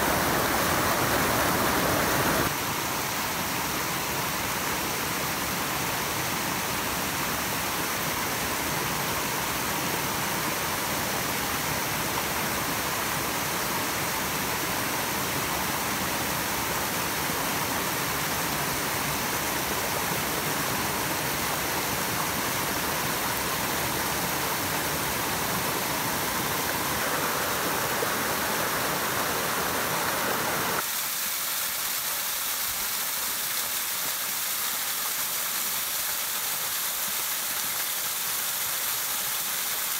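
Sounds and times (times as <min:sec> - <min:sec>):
water rushing over small falls: 0:00.0 - 0:39.9.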